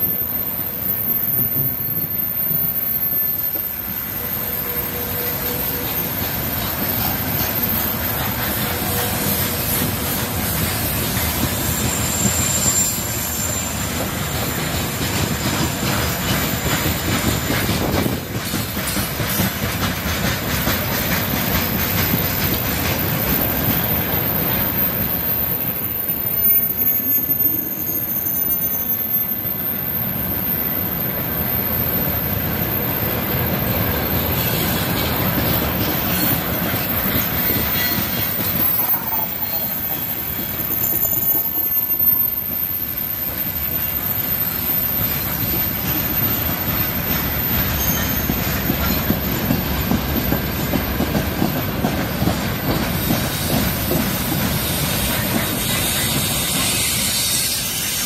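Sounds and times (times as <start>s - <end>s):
faint high wheel squeals: 0.0s - 17.1s, 20.8s - 51.3s, 52.4s - 58.0s
freight train wheels rumbling: 0.0s - 58.0s.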